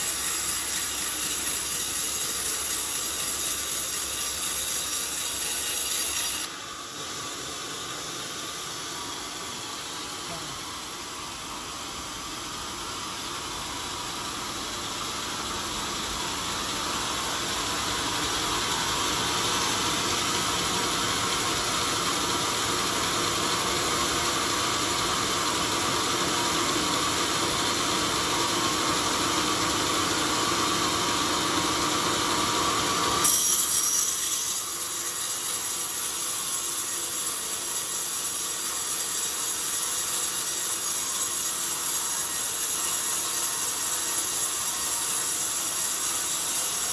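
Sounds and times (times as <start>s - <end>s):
sawmill blade cutting log: 0.0s - 10.8s, 14.4s - 46.9s.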